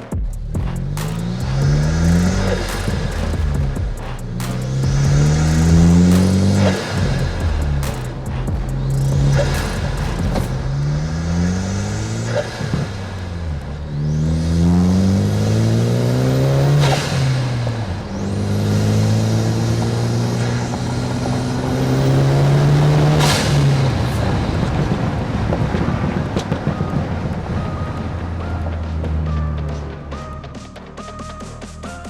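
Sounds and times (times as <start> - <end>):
car engine accelerating: 0.0 - 30.6.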